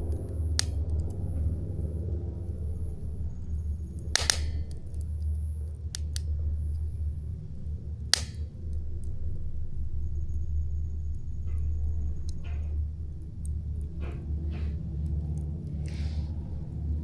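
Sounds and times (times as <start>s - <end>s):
burning wood popping: 0.0s - 17.0s
campfire rumble: 0.0s - 17.0s
faint fire crackles: 0.0s - 17.0s.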